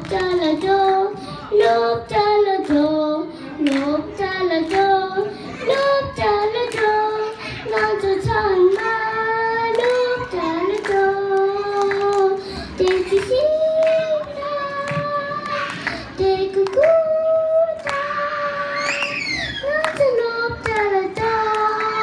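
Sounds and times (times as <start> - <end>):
girl singing into microphone: 0.0 - 22.0.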